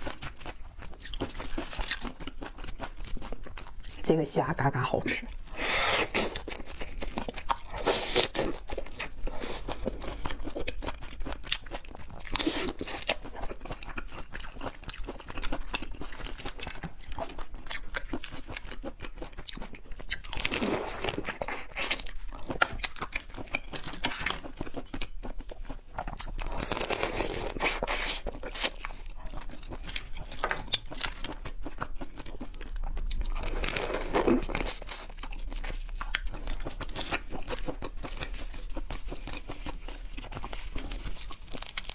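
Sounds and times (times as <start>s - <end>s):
chewing and crunching shrimp: 0.0s - 41.9s.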